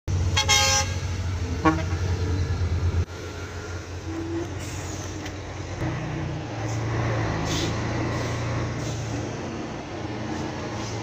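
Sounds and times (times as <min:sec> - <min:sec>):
truck diesel engine droning: 0:00.1 - 0:11.0.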